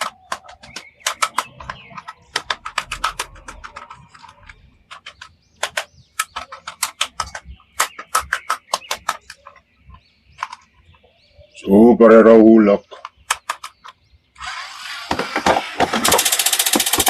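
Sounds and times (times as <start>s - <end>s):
plastic toys and packaging clicking: 0.0s - 10.7s, 12.9s - 17.0s.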